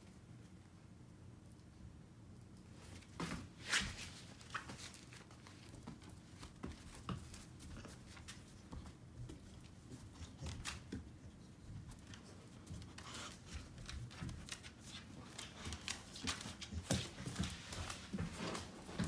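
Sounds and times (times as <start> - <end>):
dogs' claws clicking on floor: 2.4 - 19.0.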